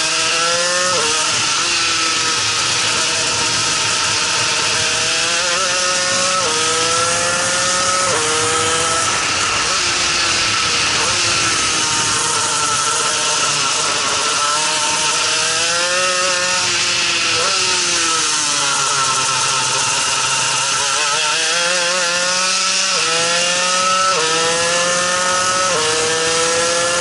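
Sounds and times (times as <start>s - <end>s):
engine upshifts: 0.0s - 27.0s
kart engine revving: 0.0s - 27.0s.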